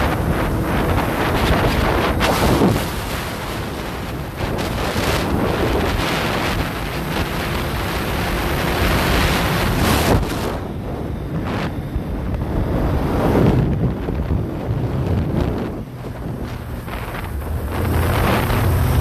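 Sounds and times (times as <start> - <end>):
motorcycle engine running: 0.0 - 19.0
wind buffeting the microphone: 0.0 - 19.0.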